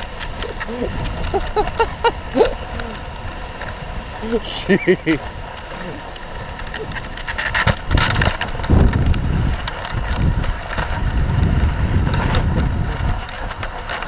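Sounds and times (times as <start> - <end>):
sled runners rumbling on snow: 0.0 - 14.0
wind buffeting microphone: 0.0 - 14.0.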